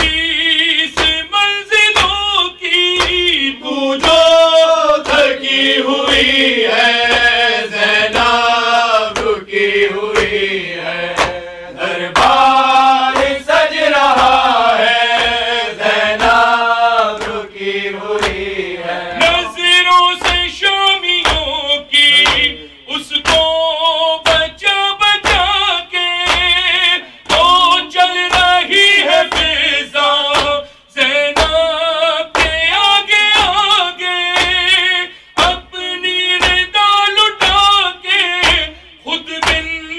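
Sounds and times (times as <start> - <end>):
man chanting into microphone: 0.0 - 18.1, 18.8 - 39.9
sharp rhythmic slaps: 0.0 - 39.9.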